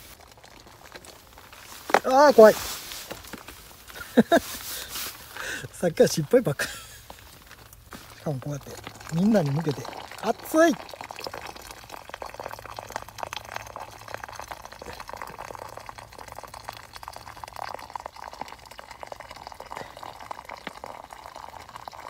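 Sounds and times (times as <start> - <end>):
water bubbling in a pot: 0.0 - 22.0.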